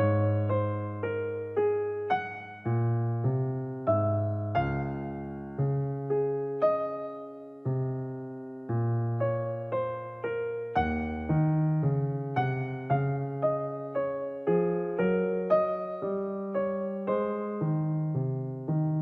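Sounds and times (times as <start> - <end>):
gentle electric piano melody: 0.0 - 19.0.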